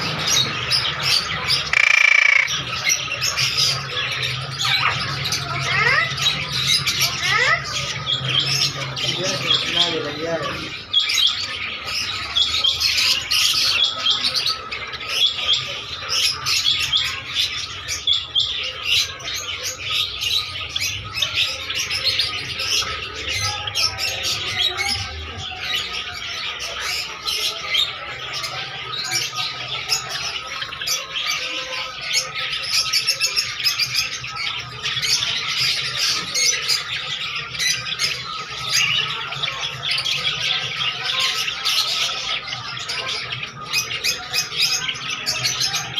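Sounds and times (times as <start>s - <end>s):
caged birds chirping and squawking: 0.0s - 45.9s.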